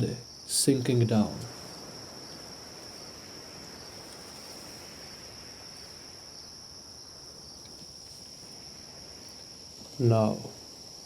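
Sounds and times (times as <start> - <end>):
insects chirring: 0.0 - 11.0
soft background hiss: 0.0 - 11.0.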